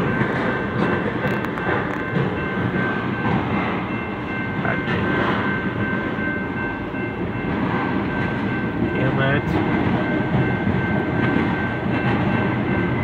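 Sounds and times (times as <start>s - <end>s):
train wheels rumbling and rattling: 0.0s - 13.0s.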